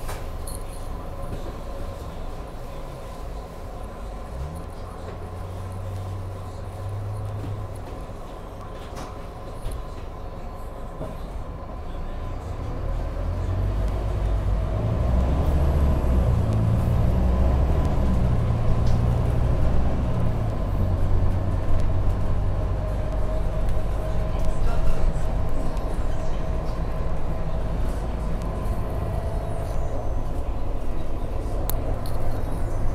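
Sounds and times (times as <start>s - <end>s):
bus diesel engine rumbling: 0.0s - 32.9s.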